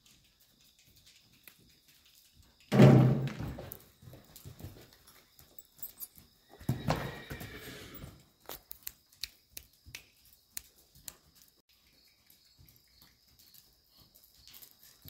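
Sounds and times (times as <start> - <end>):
horse hoofbeats on soft dirt: 0.0 - 15.0.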